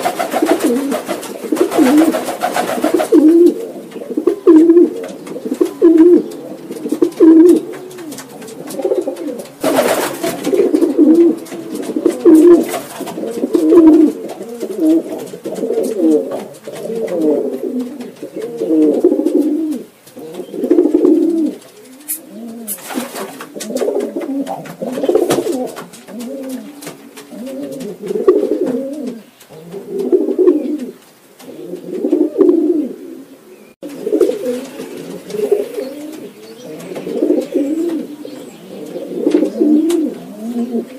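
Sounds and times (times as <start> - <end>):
pigeons cooing: 0.0 - 40.9.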